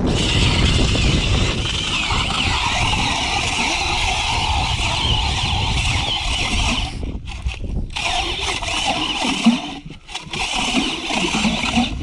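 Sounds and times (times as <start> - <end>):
powered ice auger drilling: 0.0 - 12.0.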